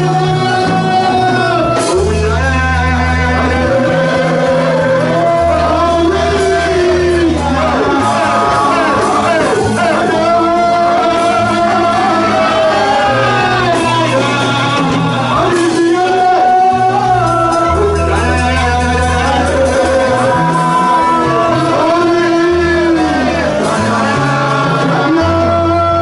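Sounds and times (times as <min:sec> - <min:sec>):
held bass notes: 0:00.0 - 0:26.0
live band with keyboard: 0:00.0 - 0:26.0
man singing into a microphone: 0:00.0 - 0:26.0.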